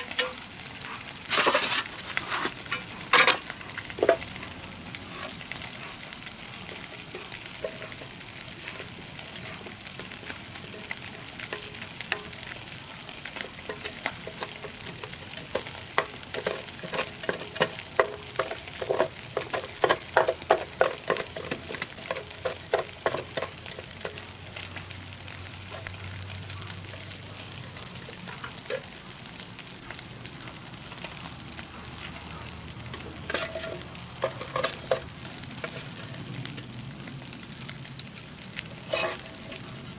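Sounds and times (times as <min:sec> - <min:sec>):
food sizzling over campfire: 0:00.0 - 0:39.9
small crackles and pops: 0:00.0 - 0:39.9.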